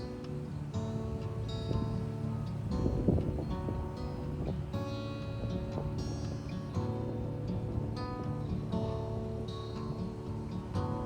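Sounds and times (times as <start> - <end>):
instrumental guitar music: 0.0 - 11.0.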